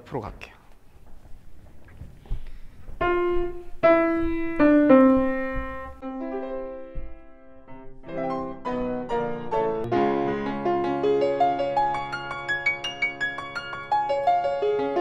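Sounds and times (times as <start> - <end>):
grand piano playing: 2.4 - 15.0.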